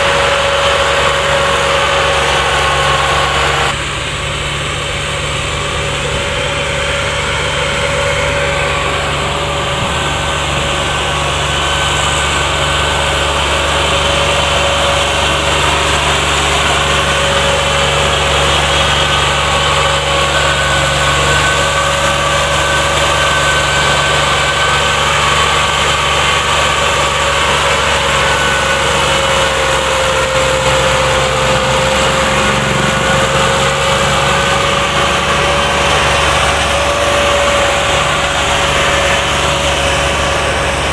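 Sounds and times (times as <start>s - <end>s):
held whine: 0.0s - 40.9s
tractor diesel engine: 0.0s - 40.9s.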